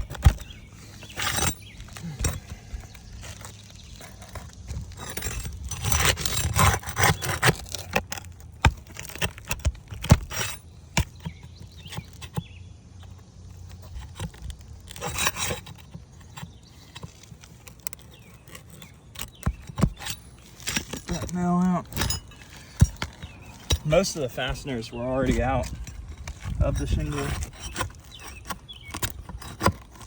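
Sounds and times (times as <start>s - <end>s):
metal scraper scraping shingles: 0.0s - 30.0s.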